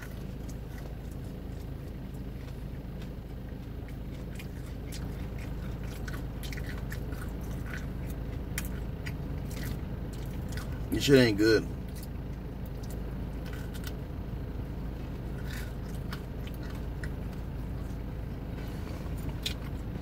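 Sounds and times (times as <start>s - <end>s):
man chewing: 0.0s - 20.0s
steady low hum: 0.0s - 20.0s.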